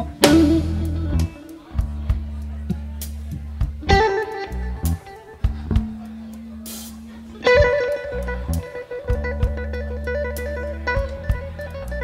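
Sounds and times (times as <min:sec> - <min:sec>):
electric guitar blues phrases: 0:00.0 - 0:12.0
steady bass line: 0:00.0 - 0:12.0.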